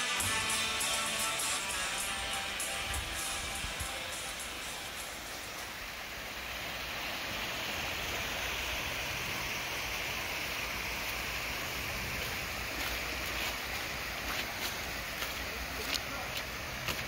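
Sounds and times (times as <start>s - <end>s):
creek running over rocks: 0.0s - 17.0s.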